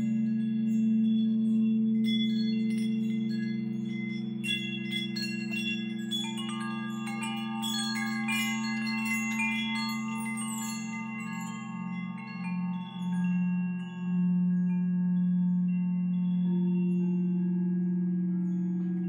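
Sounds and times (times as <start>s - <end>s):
shimmering chimes: 0.0s - 19.0s
singing bowls droning: 0.0s - 19.0s.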